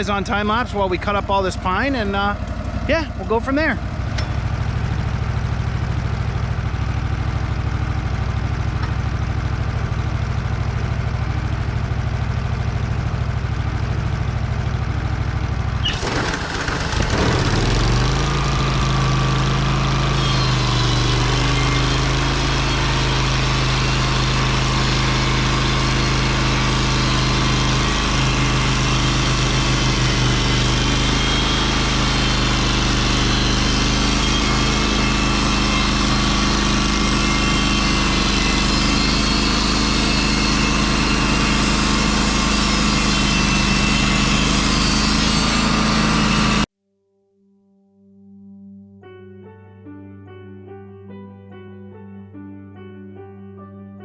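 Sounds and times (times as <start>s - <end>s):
sawmill engine running: 0.0s - 46.7s.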